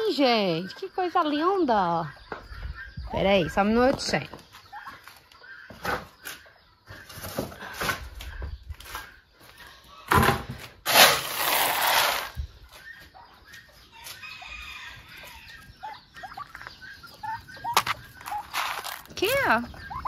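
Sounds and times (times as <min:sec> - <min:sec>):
poultry calling faintly: 0:00.0 - 0:10.3, 0:12.6 - 0:20.0.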